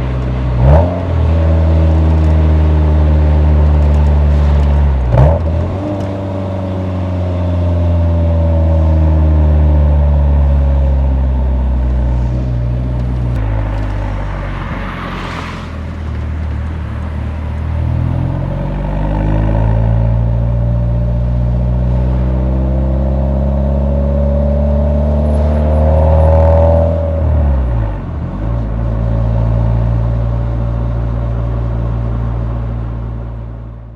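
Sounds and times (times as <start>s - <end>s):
car engine exhaust drone: 0.0s - 33.9s.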